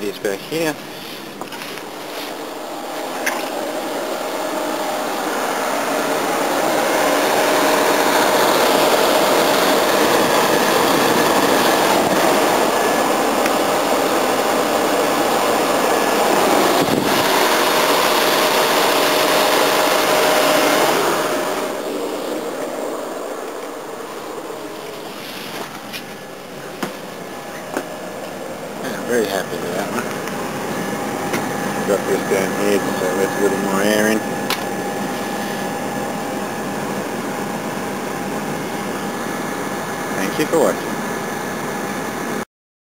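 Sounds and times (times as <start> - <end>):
heat pump fan running: 0.0 - 42.4.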